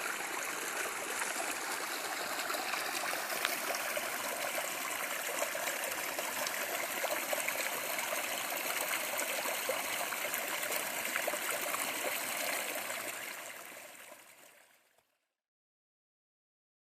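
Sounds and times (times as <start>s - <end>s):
stream rushing over rocks: 0.0s - 14.6s.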